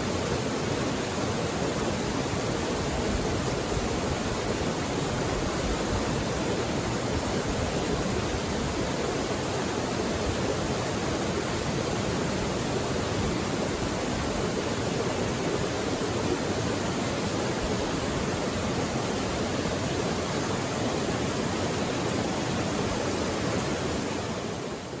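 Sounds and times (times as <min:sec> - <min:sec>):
creek water rushing over rocks: 0:00.0 - 0:25.0.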